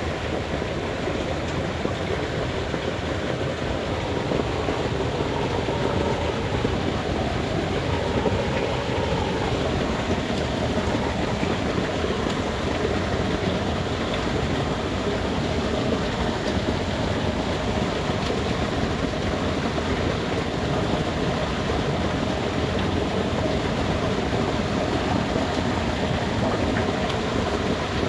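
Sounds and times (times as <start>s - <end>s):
water rushing down a channel: 0.0s - 28.0s.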